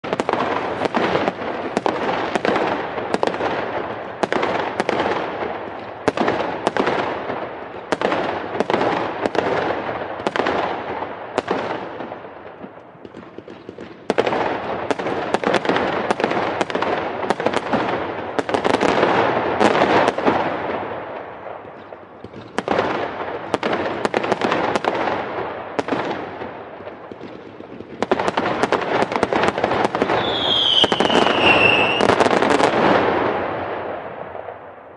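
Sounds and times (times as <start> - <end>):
fireworks crackling: 0.0 - 34.9
fireworks sharp bangs: 0.0 - 34.9.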